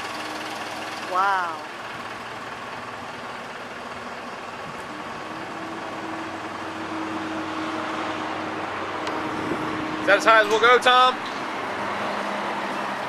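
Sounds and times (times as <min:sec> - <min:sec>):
lift engine and hydraulics hum: 0:00.0 - 0:13.0.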